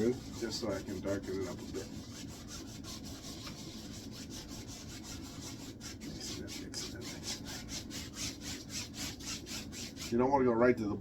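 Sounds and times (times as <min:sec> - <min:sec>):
paintbrush scrubbing on canvas: 0:00.0 - 0:10.3
steady low hum: 0:00.0 - 0:11.0.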